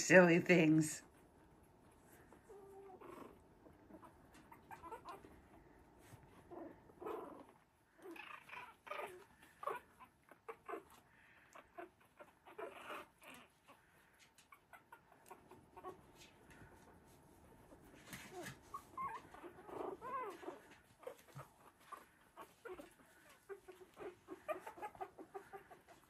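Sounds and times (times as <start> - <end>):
puppies squeaking and grunting: 1.1 - 26.0.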